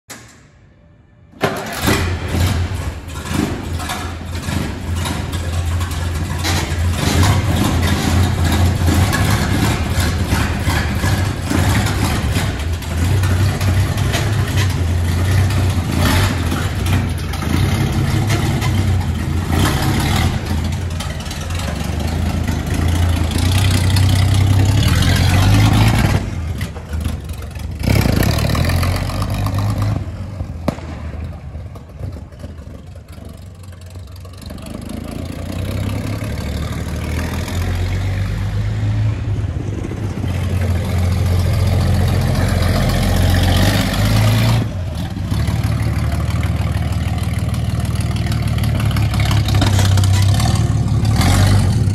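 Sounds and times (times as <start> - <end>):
petrol engine revving: 1.6 - 51.9.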